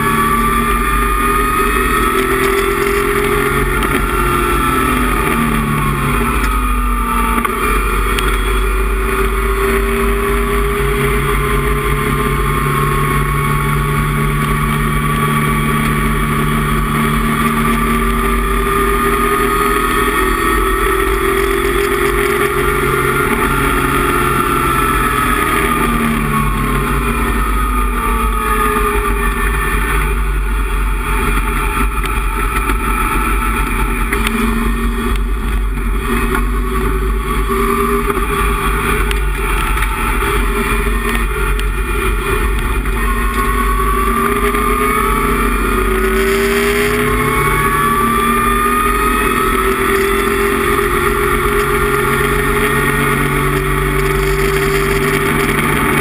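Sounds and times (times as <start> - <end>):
gear change: 0.0 - 56.0
race car engine revving: 0.0 - 56.0.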